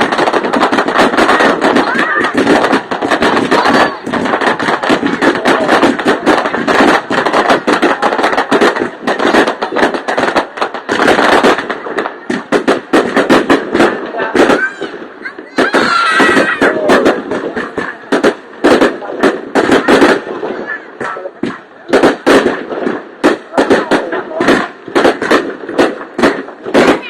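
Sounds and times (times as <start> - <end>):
fireworks barrage: 0.0 - 27.0.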